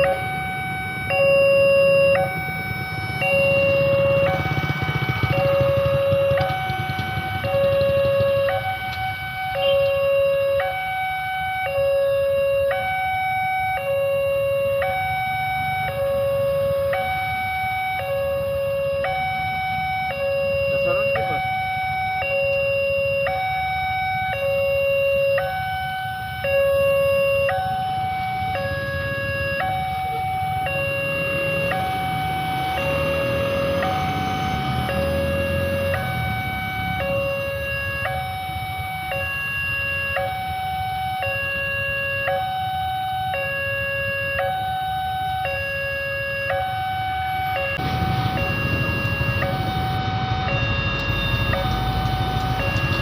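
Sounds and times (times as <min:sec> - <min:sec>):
level crossing two-tone alarm: 0:00.0 - 0:53.0.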